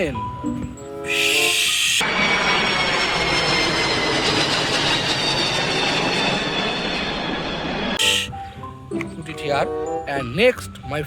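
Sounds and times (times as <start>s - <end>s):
jet plane roar with whine: 0.0s - 10.0s.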